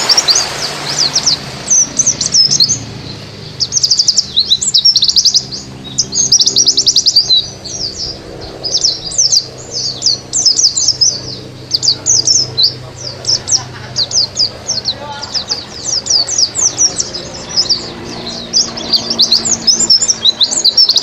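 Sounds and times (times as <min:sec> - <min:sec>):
small bird twittering song: 0:00.0 - 0:21.0.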